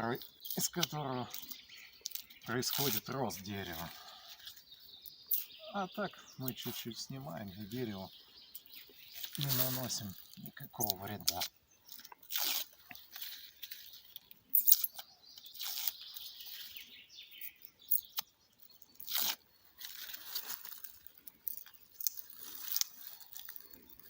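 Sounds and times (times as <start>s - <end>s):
birch bark tearing and crackling: 0.0s - 5.6s, 8.6s - 24.0s.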